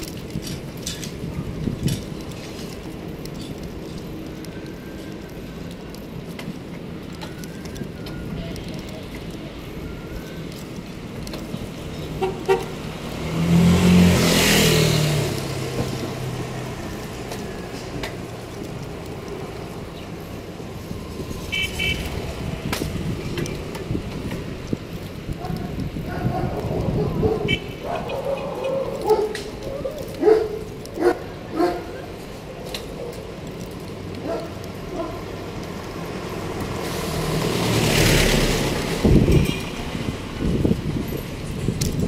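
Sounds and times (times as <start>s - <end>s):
street traffic road noise: 0.0s - 42.0s
vehicle passing rush: 0.0s - 42.0s.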